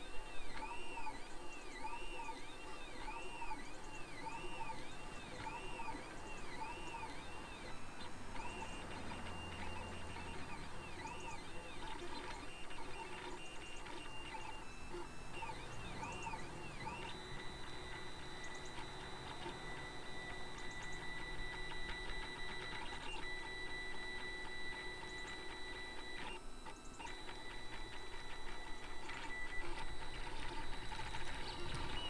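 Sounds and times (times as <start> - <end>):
printer stepper motors whining: 0.0 - 32.0.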